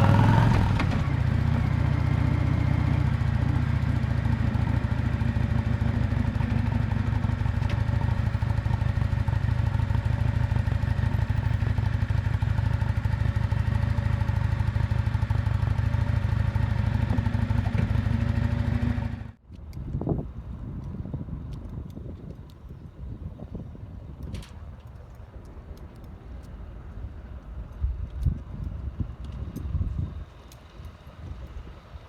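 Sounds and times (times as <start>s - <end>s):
motorcycle exhaust cruising: 0.0s - 32.0s.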